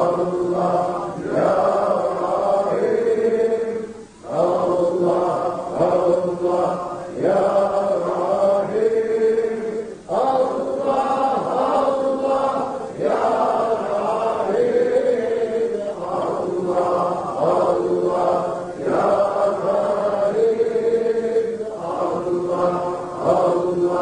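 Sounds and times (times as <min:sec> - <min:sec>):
man chanting into microphone: 0:00.0 - 0:24.0.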